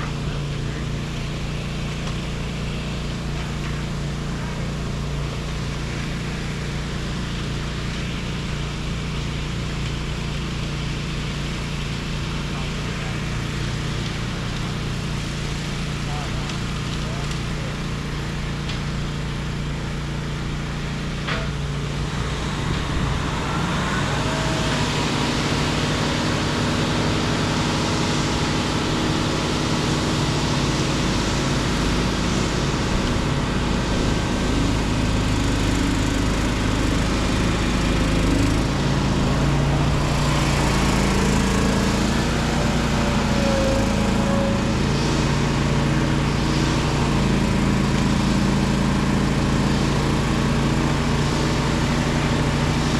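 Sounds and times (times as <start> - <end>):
engine running: 0.0 - 52.9.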